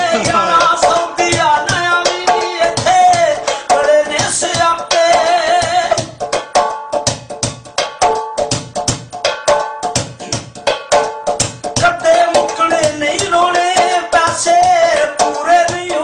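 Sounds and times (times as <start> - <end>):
fast hand percussion: 0.0 - 16.0.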